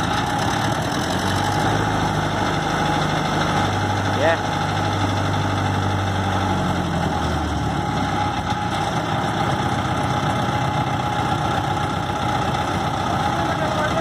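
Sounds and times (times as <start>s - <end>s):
road roller engine idling: 0.0s - 14.0s.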